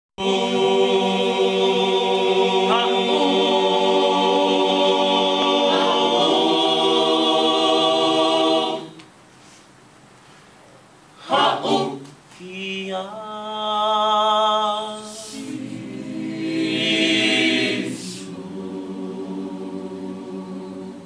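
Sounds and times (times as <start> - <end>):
choir singing a cappella: 0.2 - 9.1, 11.2 - 21.0.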